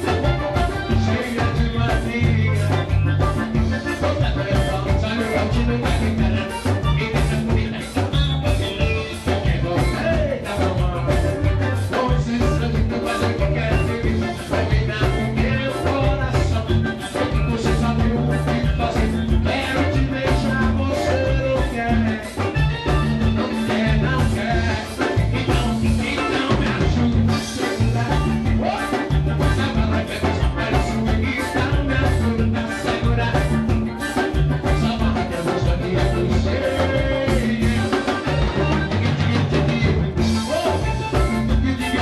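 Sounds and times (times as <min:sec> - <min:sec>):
live latin dance band: 0:00.0 - 0:42.0
person singing: 0:00.0 - 0:42.0.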